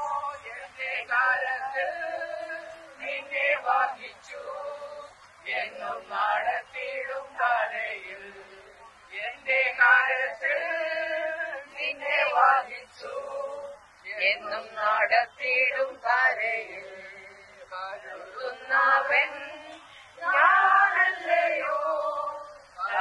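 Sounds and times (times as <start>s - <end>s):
women singing in unison: 0.0s - 23.0s.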